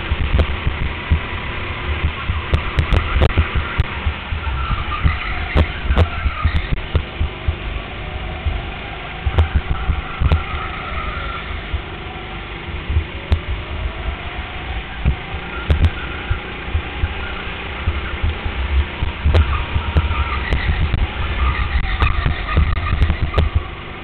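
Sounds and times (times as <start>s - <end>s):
go-kart engine running: 0.0s - 24.0s
heavy low rumble: 0.0s - 24.0s.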